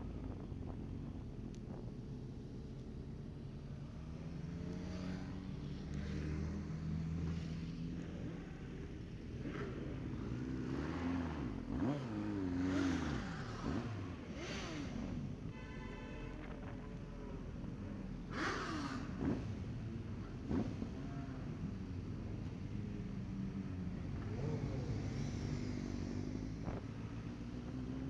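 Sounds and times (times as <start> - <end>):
motorcycle engines revving: 0.0 - 15.6, 16.4 - 28.0.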